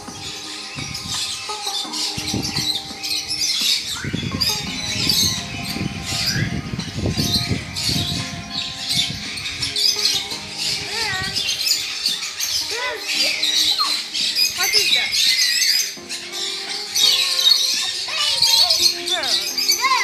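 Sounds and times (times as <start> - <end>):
background music: 0.0 - 20.0
bird-like squawks and chirps: 0.0 - 20.0.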